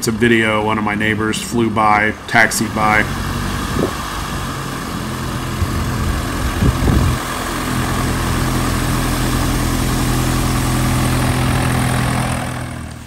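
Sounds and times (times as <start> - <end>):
propeller plane engine droning: 2.1 - 13.0.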